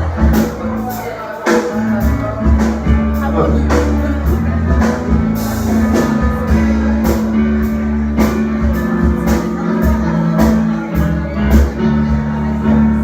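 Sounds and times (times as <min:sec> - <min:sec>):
band playing upbeat gospel: 0:00.0 - 0:13.0.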